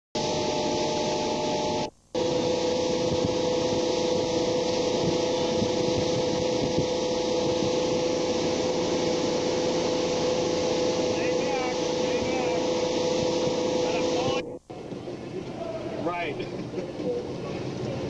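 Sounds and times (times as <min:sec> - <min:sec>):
motorboat engine running: 0:00.2 - 0:18.0
rushing wind and water: 0:00.3 - 0:18.0.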